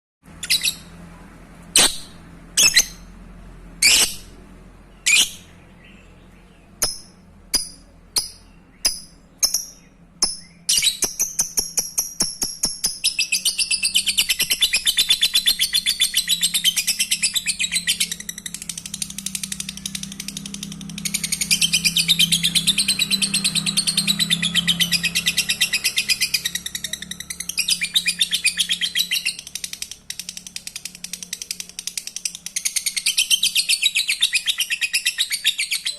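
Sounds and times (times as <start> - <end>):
bird chirping: 0.2 - 35.9
rapid bird chattering trill: 3.8 - 4.3, 5.0 - 35.9.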